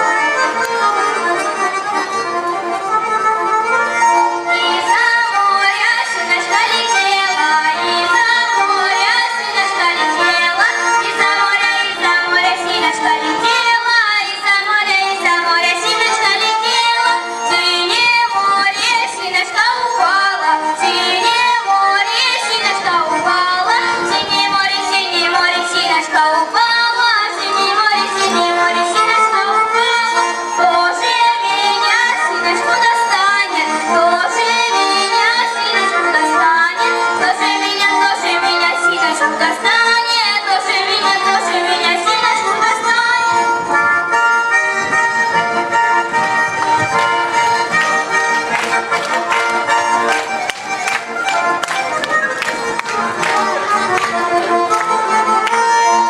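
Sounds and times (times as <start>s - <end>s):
children singing folk song: 0.0s - 56.0s
instrumental accompaniment: 0.0s - 56.0s.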